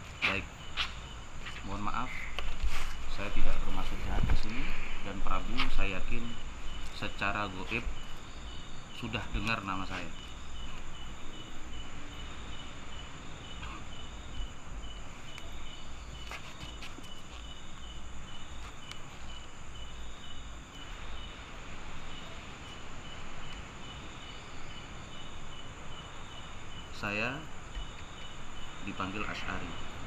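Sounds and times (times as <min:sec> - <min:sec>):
crickets chirping: 0:00.0 - 0:30.0
insect trill: 0:00.0 - 0:30.0.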